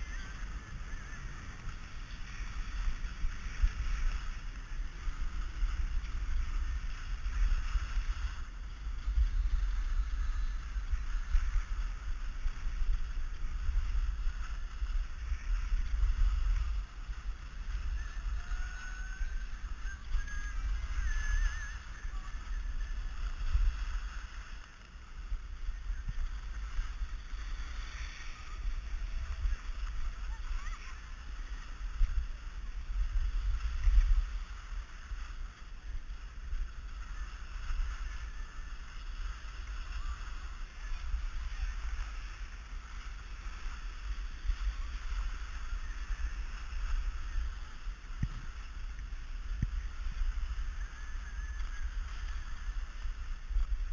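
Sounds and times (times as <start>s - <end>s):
skis scraping over snow: 0.0s - 53.9s
wind rumble on microphone: 0.0s - 53.9s.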